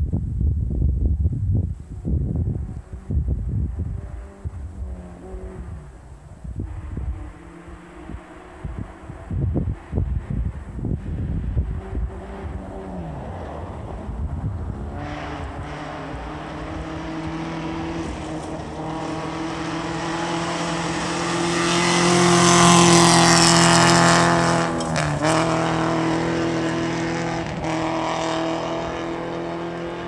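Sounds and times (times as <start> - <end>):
rally car engine at high revs: 2.5 - 30.0.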